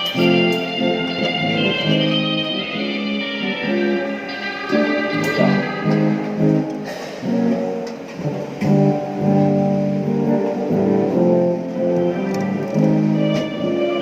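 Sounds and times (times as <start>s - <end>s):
plucked guitar chords: 0.0s - 14.0s.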